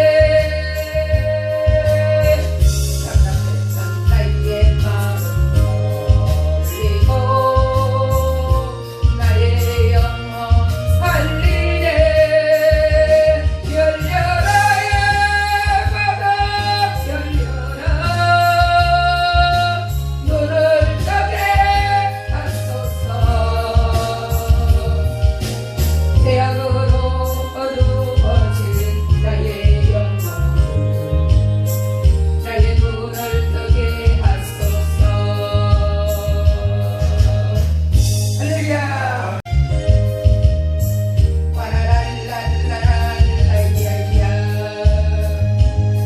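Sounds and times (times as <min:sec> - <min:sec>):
person singing gospel: 0:00.0 - 0:39.5, 0:40.8 - 0:46.0
backing track with bass beat: 0:00.0 - 0:46.0.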